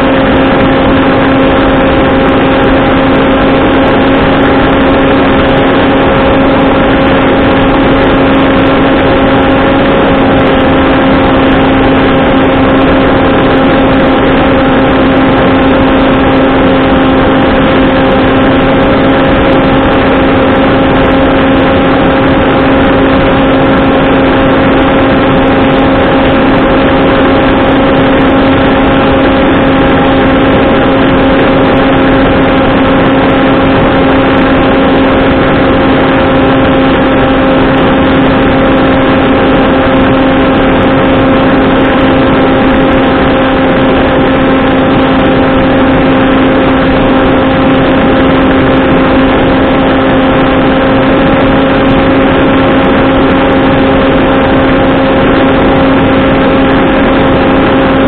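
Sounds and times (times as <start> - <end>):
electric motor and propeller buzzing: 0.0 - 58.0
wind noise: 0.0 - 58.0.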